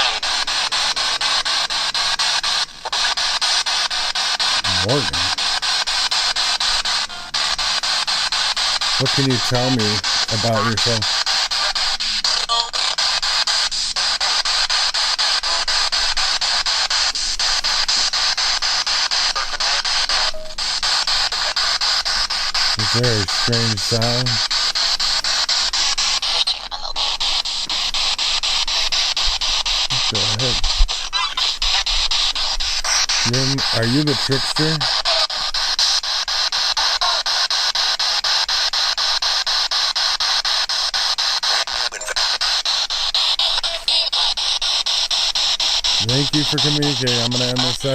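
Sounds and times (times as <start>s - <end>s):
faint snatches of broadcast audio: 0.0s - 47.9s
radio static chopped rapidly: 0.0s - 47.9s.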